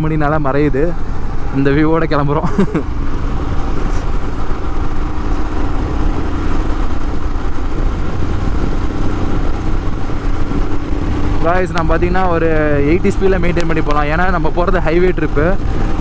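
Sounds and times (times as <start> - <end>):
motorcycle engine running: 0.0 - 16.0
wind rushing on microphone: 0.0 - 16.0.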